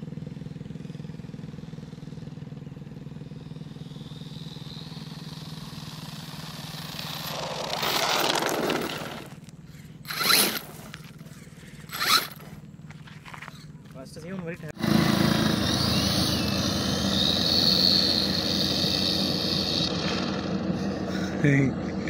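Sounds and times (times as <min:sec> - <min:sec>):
tyres on gravel: 0:00.0 - 0:21.7
low engine drone: 0:00.0 - 0:22.0
electric motor whine: 0:00.8 - 0:22.0.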